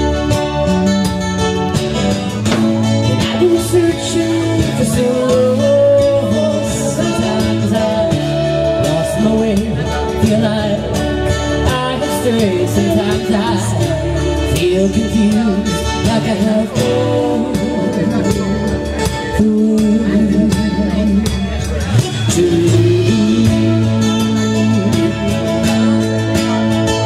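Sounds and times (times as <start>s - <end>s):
drum kit with cymbals: 0.0s - 27.0s
strummed acoustic guitar: 0.0s - 27.0s
woman singing: 3.2s - 25.6s.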